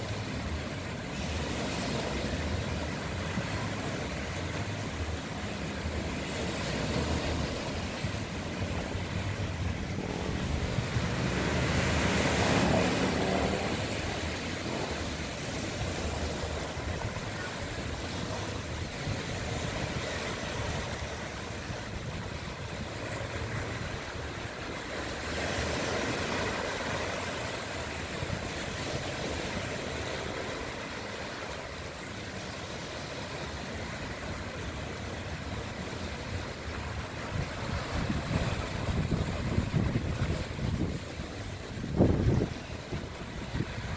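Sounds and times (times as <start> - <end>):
small waves breaking on sand: 0.0 - 43.9.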